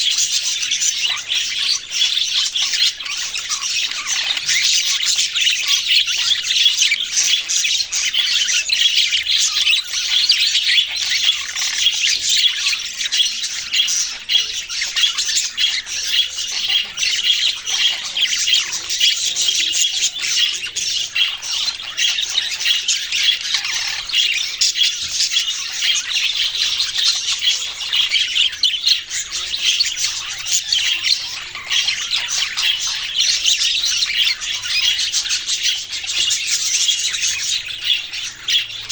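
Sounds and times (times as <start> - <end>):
parrots chirping and squawking: 0.0 - 38.9.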